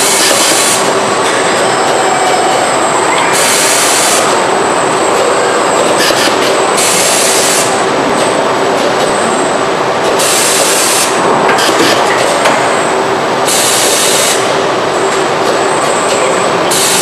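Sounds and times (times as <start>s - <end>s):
loud machine clatter: 0.0s - 17.0s.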